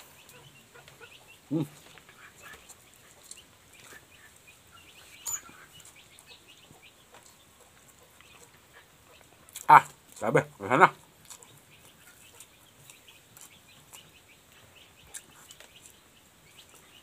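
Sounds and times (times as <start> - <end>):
chicken clucking: 0.0 - 17.0
small birds chirping: 0.0 - 17.0.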